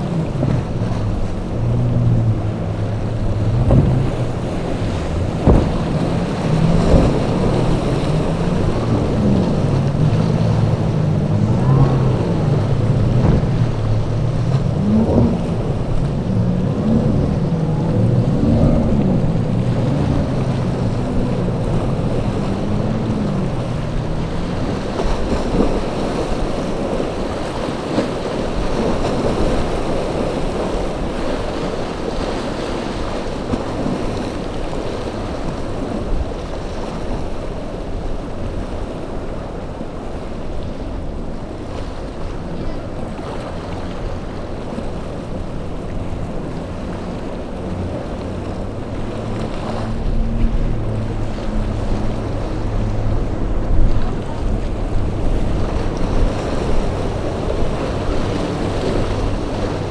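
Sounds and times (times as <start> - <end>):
boat engine: 0.0 - 59.9
waves breaking: 0.0 - 59.9
wind buffeting microphone: 0.0 - 59.9.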